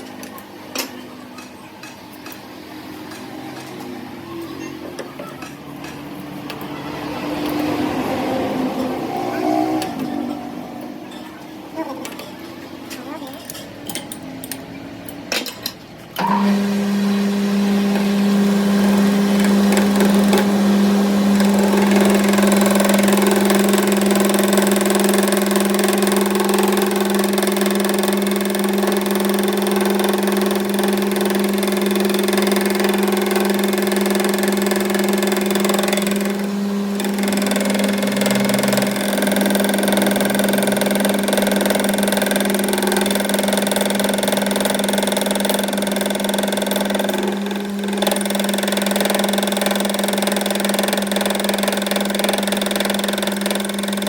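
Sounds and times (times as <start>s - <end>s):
machine motor humming: 4.1s - 12.7s, 16.2s - 54.0s.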